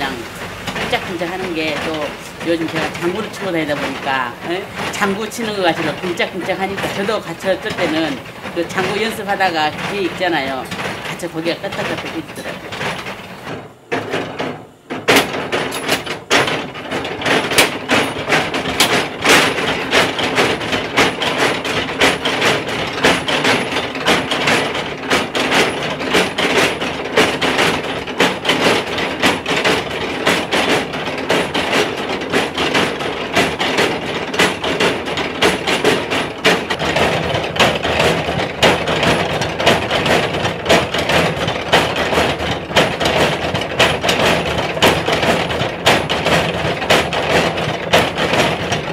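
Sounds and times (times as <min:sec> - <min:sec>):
stamp mill pestles pounding: 0:00.0 - 0:48.9.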